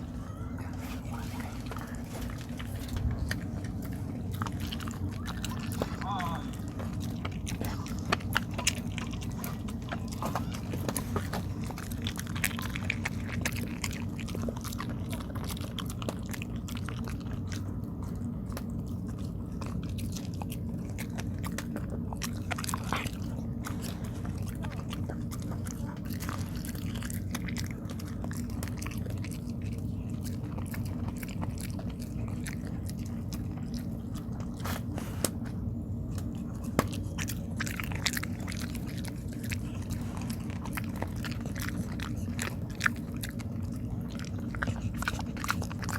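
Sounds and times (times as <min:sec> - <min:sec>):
dog chewing: 0:00.0 - 0:45.9
steady low hum: 0:00.0 - 0:45.9.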